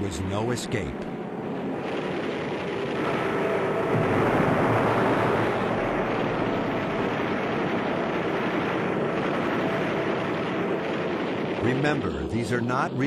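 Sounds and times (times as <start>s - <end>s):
rushing wind: 0.0s - 13.0s.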